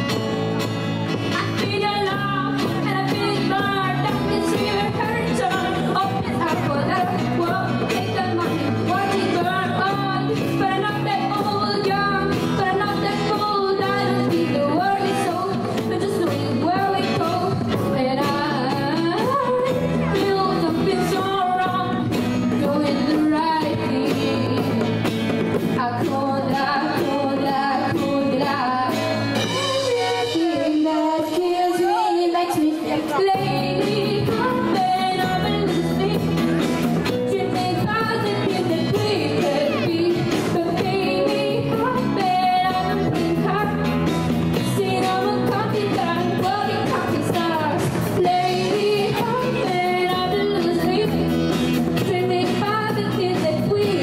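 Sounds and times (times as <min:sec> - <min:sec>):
acoustic guitar: 0:00.0 - 0:54.0
drums: 0:00.0 - 0:54.0
girl singing into a microphone: 0:01.3 - 0:54.0.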